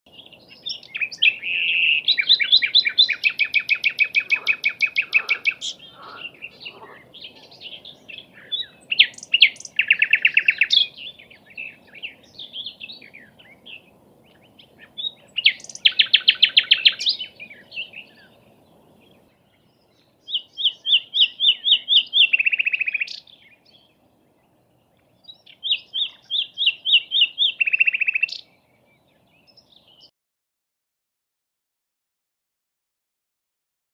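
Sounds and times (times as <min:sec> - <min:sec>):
bird singing trills: 0:00.1 - 0:30.1.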